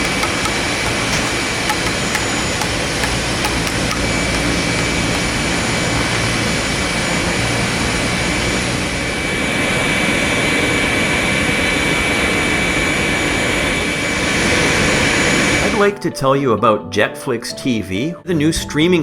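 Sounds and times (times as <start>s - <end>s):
jet engine rushing noise: 0.0s - 15.9s
jet engines high whine: 0.0s - 15.9s.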